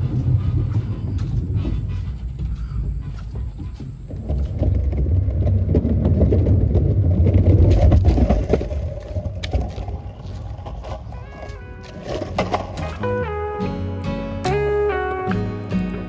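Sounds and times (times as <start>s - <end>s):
wheels rumbling over wooden planks: 0.0s - 15.3s.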